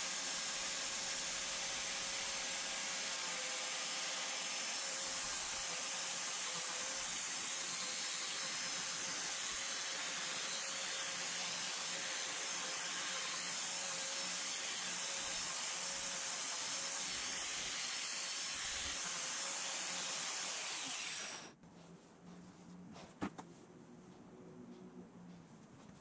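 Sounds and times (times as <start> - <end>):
angle grinder on wood: 0.0 - 21.6.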